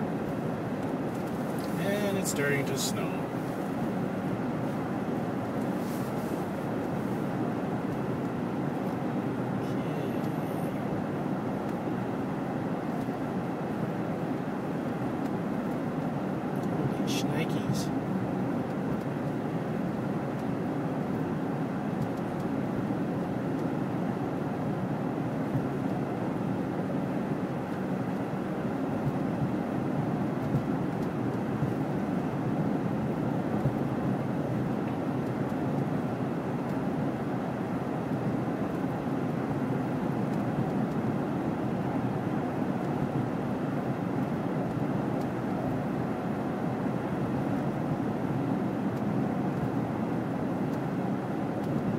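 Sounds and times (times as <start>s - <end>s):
car road and engine noise: 0.0s - 51.9s.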